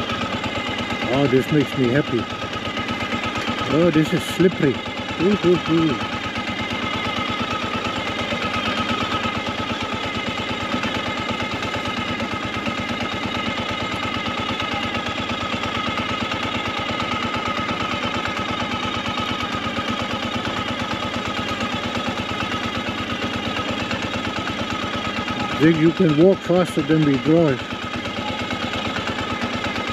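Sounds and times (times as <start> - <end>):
motorcycle engine running slowly: 0.0 - 29.9.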